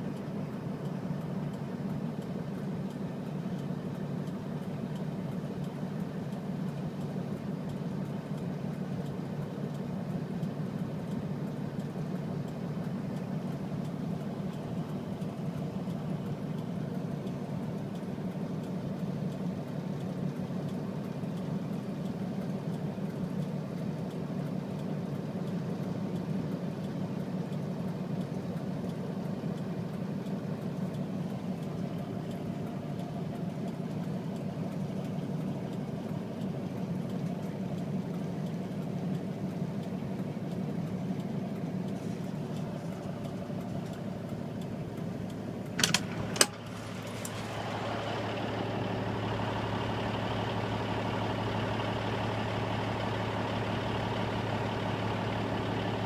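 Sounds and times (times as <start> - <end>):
engine idling hum: 0.0 - 56.0.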